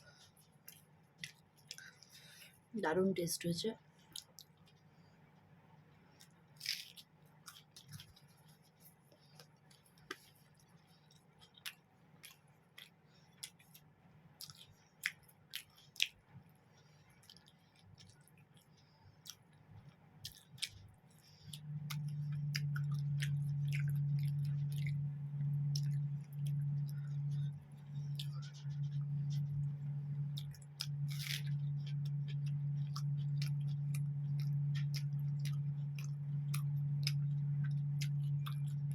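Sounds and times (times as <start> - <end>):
person chewing food: 0.0 - 2.7, 4.0 - 38.9
steady low hum: 0.0 - 38.9.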